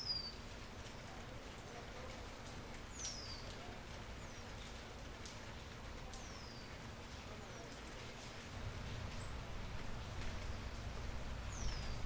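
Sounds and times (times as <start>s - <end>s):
rain falling on leaves: 0.0s - 12.0s.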